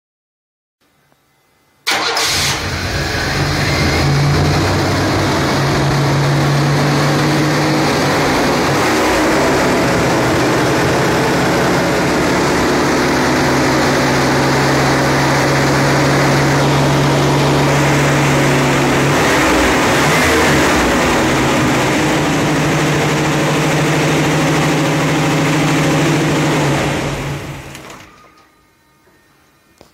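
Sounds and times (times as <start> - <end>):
car engine droning: 1.9 - 28.1.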